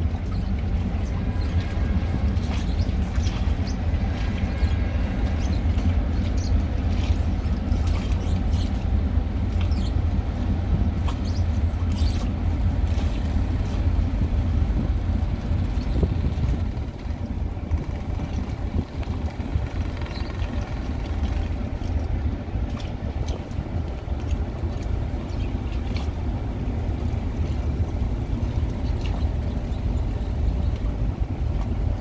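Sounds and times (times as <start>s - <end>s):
ship engines rumbling: 0.0s - 32.0s.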